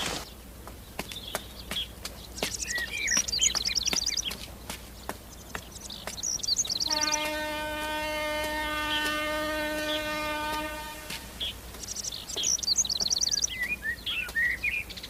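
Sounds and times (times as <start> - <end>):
footsteps running: 0.0 - 14.6
small birds chirping: 0.0 - 15.0.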